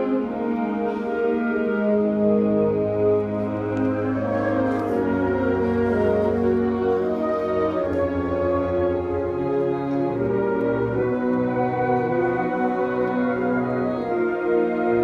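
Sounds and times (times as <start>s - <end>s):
wind band playing sustained chords: 0.0s - 15.0s.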